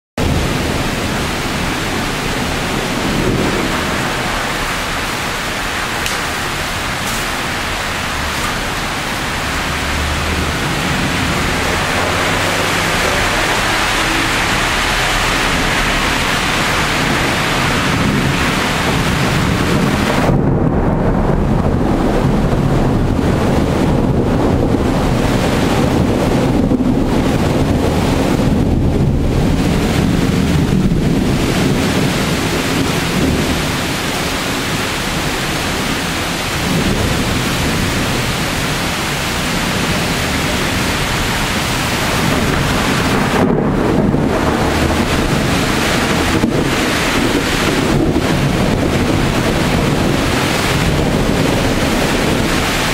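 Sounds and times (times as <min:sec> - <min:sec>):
heavy rain hiss: 0:00.2 - 0:52.9
low thunder rumbling: 0:00.2 - 0:52.9
deep uneven rushing: 0:01.2 - 0:34.0, 0:36.6 - 0:52.9.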